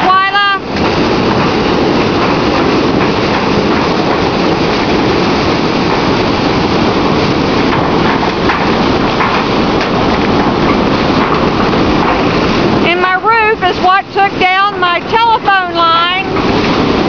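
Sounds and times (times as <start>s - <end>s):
rain: 0.0s - 17.0s
strong wind blowing: 0.0s - 17.0s.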